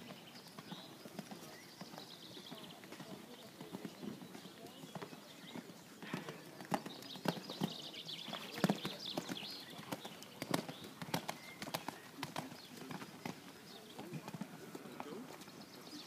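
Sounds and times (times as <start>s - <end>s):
horse hoofbeats on sand: 0.0s - 15.6s.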